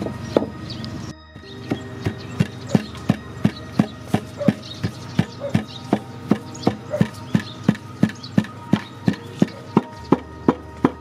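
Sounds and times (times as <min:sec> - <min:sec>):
wooden pestle pounding in mortar: 0:01.7 - 0:11.0.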